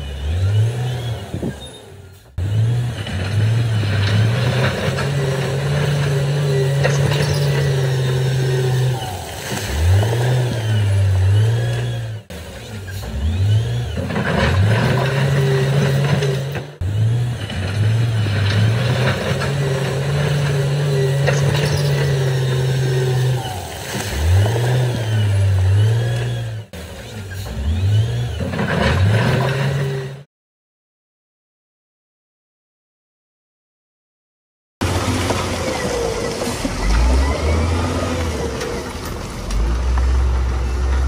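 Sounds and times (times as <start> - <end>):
diesel engine revving: 0.0 - 30.3, 34.8 - 41.0.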